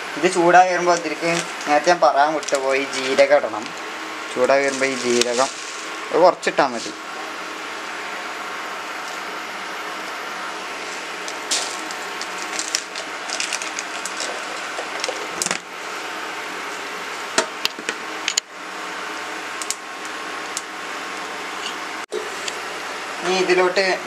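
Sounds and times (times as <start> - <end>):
seeds crackling in hot oil: 0.3 - 7.2, 8.6 - 16.3, 17.1 - 22.6.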